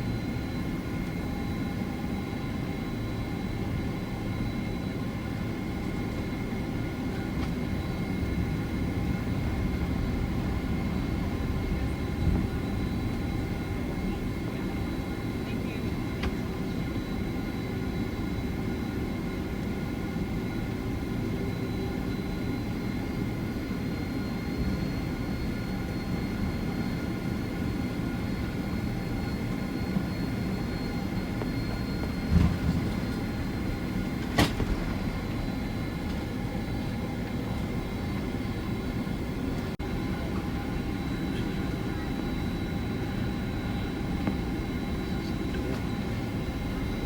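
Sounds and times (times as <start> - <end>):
airliner cabin rumble: 0.0 - 47.0.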